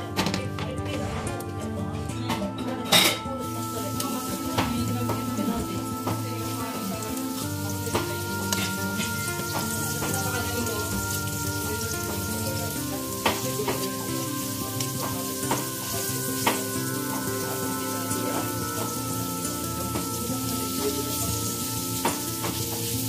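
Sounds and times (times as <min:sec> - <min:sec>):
chicken sizzling in oil: 0:03.0 - 0:23.0.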